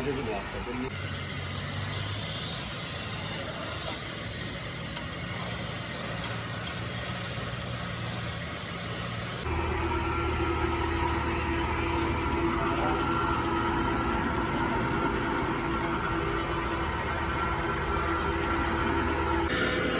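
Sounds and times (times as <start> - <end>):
motor humming: 0.0 - 19.9.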